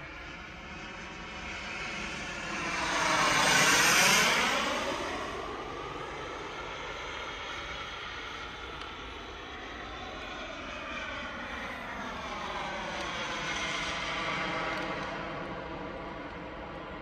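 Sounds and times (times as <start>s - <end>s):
model jet turbine passing: 0.0s - 17.0s.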